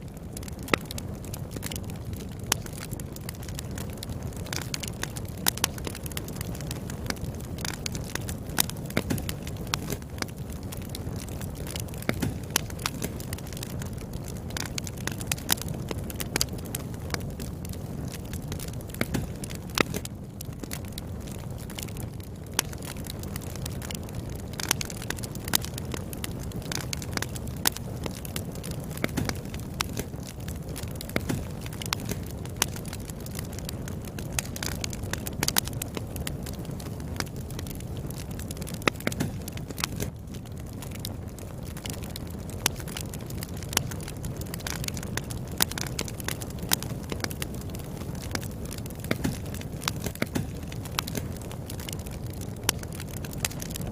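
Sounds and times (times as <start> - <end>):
fire rumbling: 0.0 - 53.9
firewood crackling and popping: 0.0 - 53.9.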